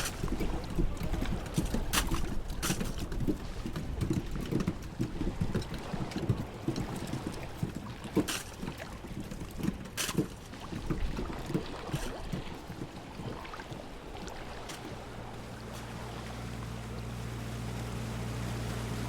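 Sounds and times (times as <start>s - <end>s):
knocks against a boat: 0.0s - 16.1s
boat motor humming: 0.0s - 19.0s
water lapping: 0.0s - 19.0s.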